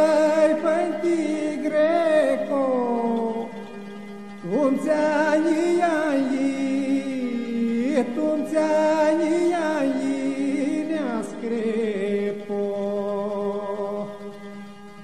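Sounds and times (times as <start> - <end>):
folk song with ornamented singing: 0.0 - 15.0
steady held drone: 0.0 - 15.0.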